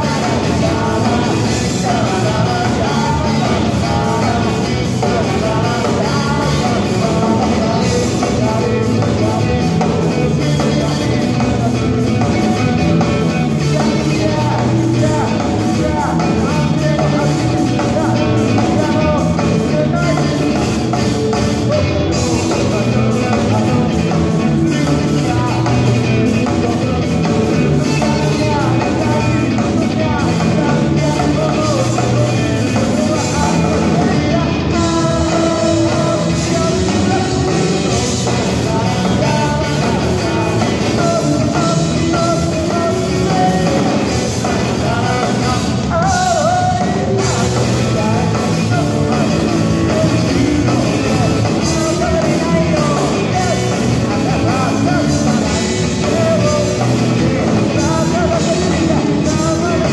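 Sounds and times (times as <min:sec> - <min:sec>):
electric guitar: 0:00.0 - 0:59.9
lead vocalist singing: 0:00.0 - 0:59.9
live rock band playing: 0:00.0 - 0:59.9.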